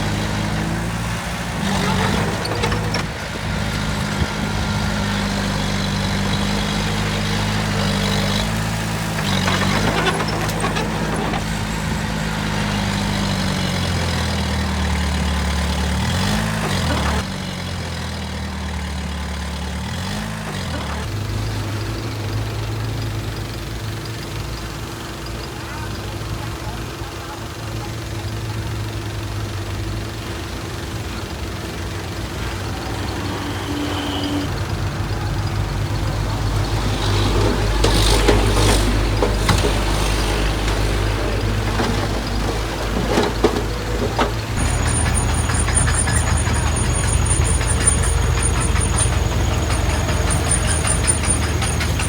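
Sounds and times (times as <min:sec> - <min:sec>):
heavy diesel engine revving: 0:00.0 - 0:52.0.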